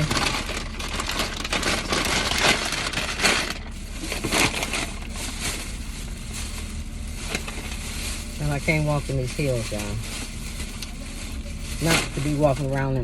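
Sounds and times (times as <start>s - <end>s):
bag and containers rustling: 0.0s - 13.0s.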